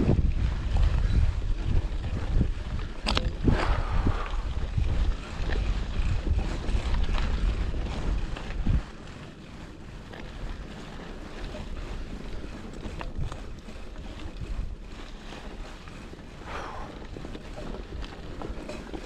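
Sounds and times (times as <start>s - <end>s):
bike tyres clicking and rattling: 0.0s - 19.0s
wind buffeting microphone: 0.0s - 19.0s.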